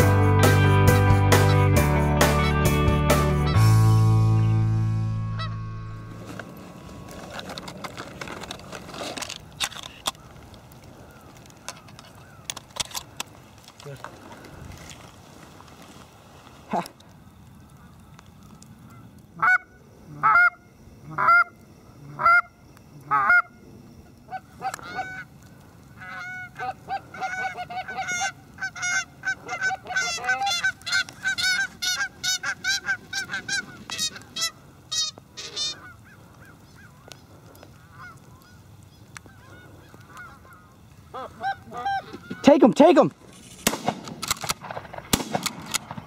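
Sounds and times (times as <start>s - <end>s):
geese honking: 0.7s - 4.0s, 5.1s - 13.4s, 17.6s - 43.1s.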